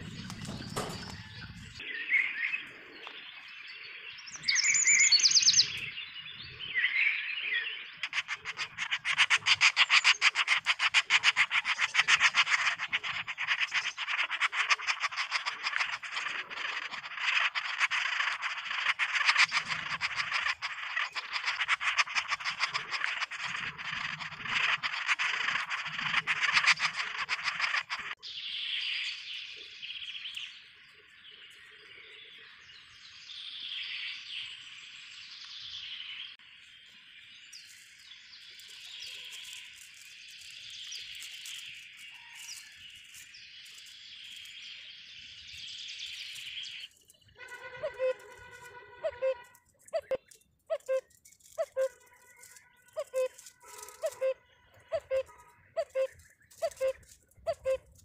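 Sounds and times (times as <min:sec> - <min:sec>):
birds chirping and chattering: 0:00.0 - 0:35.4, 0:36.0 - 0:58.0.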